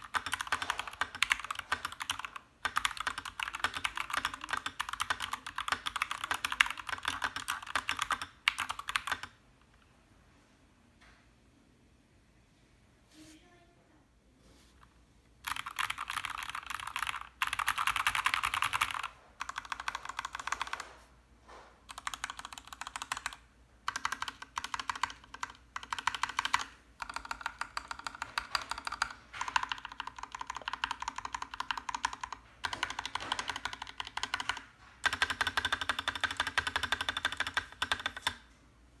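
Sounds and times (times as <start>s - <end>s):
fast mechanical keyboard typing: 0.0s - 9.4s, 15.4s - 20.9s, 21.9s - 38.4s.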